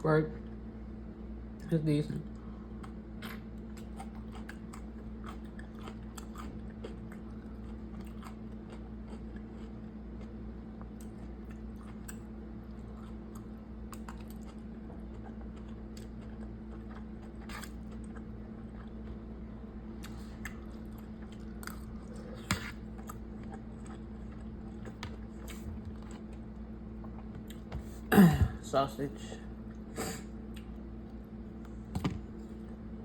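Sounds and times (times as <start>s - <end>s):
steady low hum: 0.0s - 33.0s
person chewing food: 2.4s - 28.1s, 29.6s - 32.8s.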